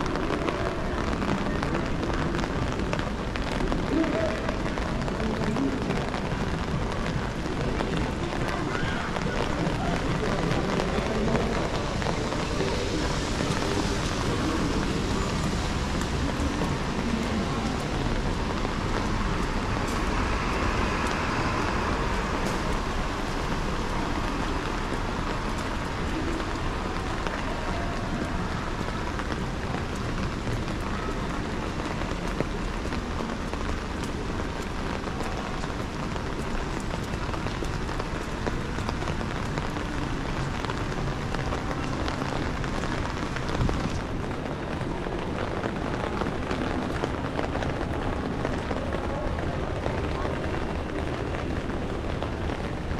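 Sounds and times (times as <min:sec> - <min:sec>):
low rumble of city traffic: 0:00.0 - 0:52.9
steady rain falling: 0:00.0 - 0:52.9.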